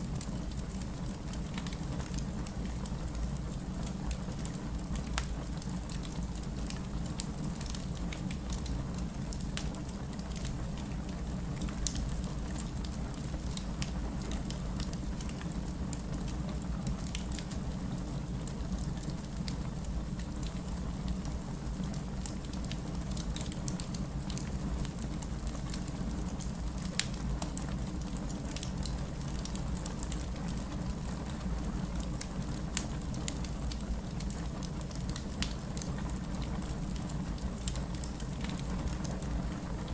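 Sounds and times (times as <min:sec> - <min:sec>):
wood fire burning and crackling: 0:00.0 - 0:39.9.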